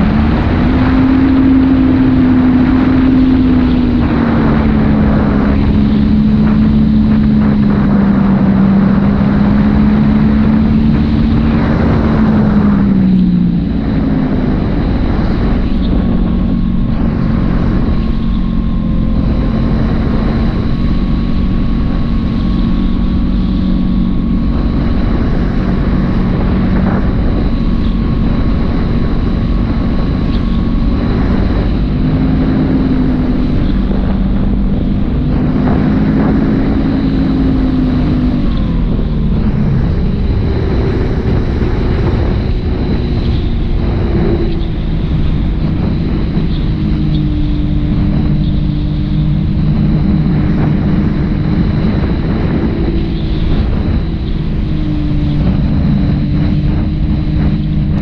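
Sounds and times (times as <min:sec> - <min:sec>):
propeller hum: 0:00.0 - 0:58.0
wind rushing: 0:00.0 - 0:58.0.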